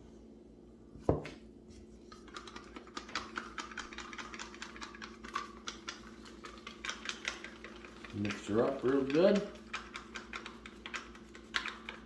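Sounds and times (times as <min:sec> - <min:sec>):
stick clicking against a cup: 0:02.2 - 0:12.0.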